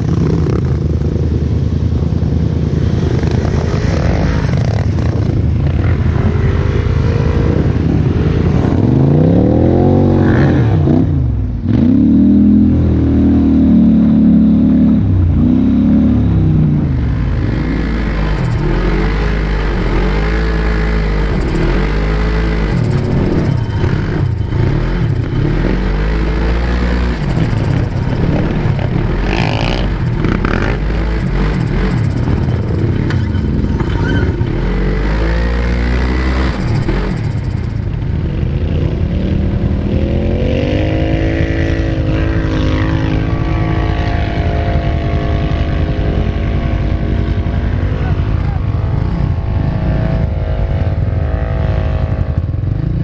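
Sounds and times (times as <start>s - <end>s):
quad engine revving: 3.0s - 53.0s.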